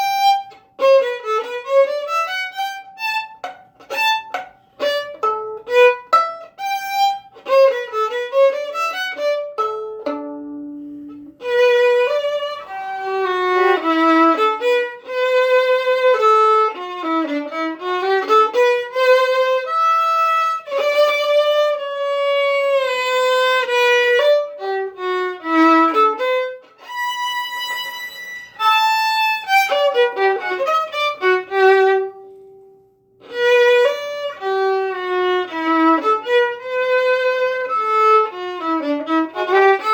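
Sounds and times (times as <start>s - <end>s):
solo violin melody: 0.0s - 39.9s.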